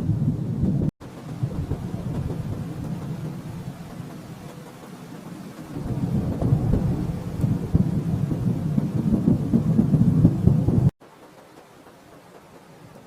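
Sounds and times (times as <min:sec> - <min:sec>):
low rolling thunder: 0:00.0 - 0:10.9.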